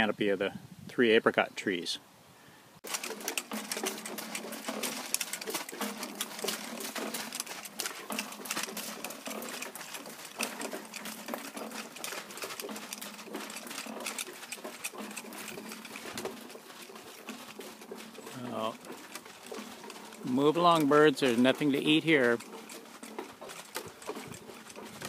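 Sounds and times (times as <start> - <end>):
plastic jugs and bags rattling: 2.8 - 25.0
pump jack motor running: 2.8 - 25.0.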